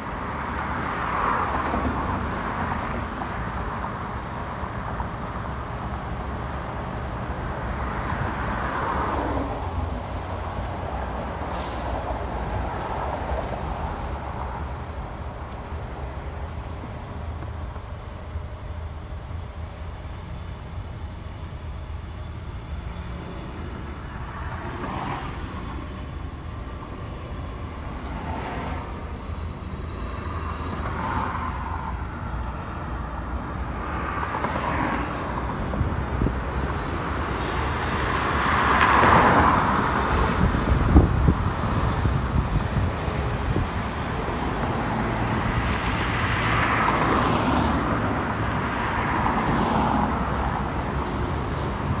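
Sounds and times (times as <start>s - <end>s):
low traffic rumble: 0.0s - 52.0s
vehicles passing: 0.0s - 52.0s.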